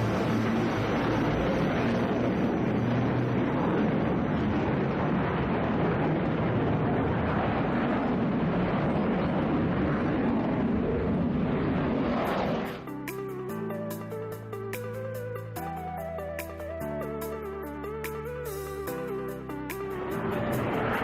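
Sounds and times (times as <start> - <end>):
jet fighter engine roar: 0.0 - 21.0.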